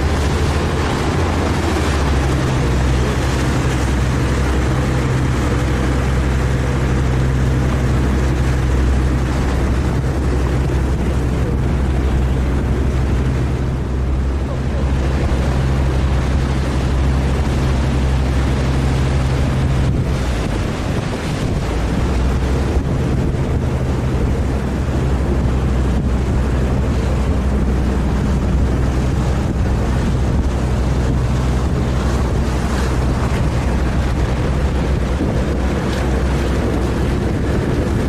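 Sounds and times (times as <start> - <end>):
boat engine humming: 0.0 - 38.0
water rushing: 0.0 - 38.0
wind buffeting microphone: 0.0 - 38.0.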